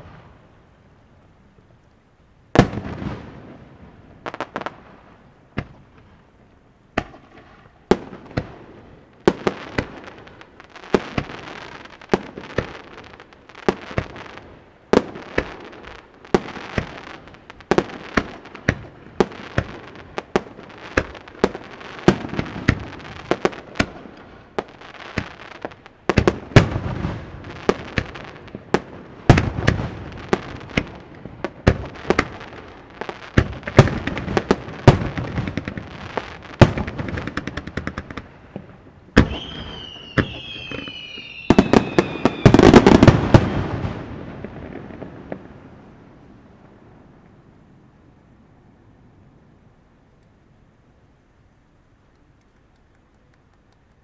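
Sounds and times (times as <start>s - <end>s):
firework crackling: 2.5s - 47.5s.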